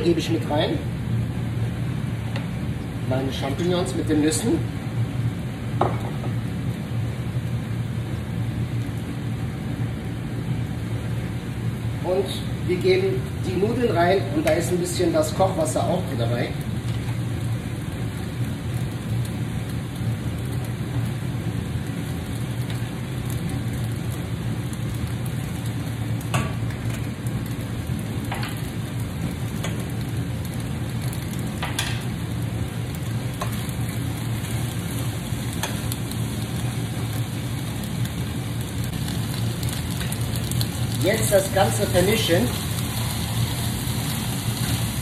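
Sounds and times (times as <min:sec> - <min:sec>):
food sizzling in frying pan: 0:00.0 - 0:45.0
low steady hum: 0:00.0 - 0:45.0.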